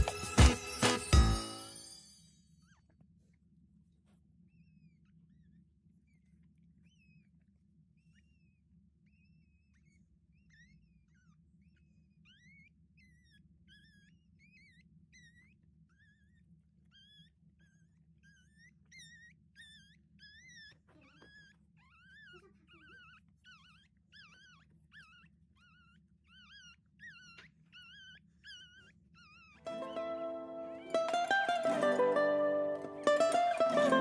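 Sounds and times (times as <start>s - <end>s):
puppy squeaking and crying: 4.5s - 34.0s.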